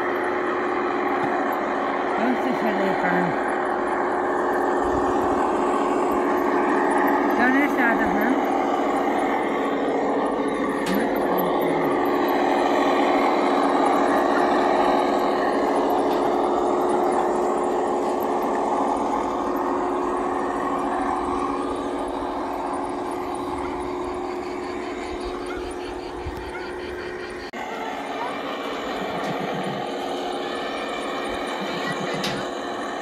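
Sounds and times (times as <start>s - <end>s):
large engine droning: 0.0s - 33.0s.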